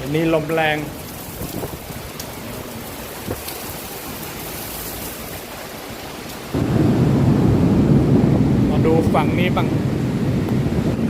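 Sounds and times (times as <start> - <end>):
wind-driven heavy rain: 0.0 - 11.0.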